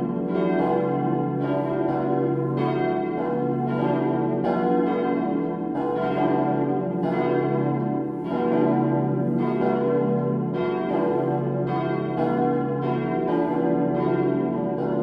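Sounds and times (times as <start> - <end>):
church bells ringing in a peal: 0.0 - 15.0.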